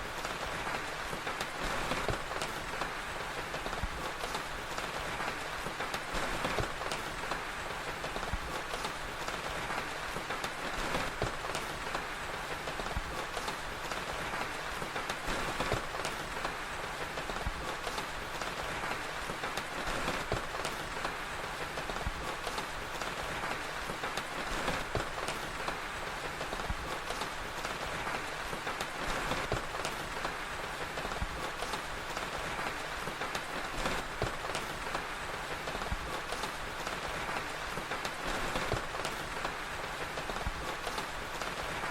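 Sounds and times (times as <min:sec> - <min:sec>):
steady rain: 0:00.0 - 0:41.9
fire crackling: 0:00.1 - 0:41.9.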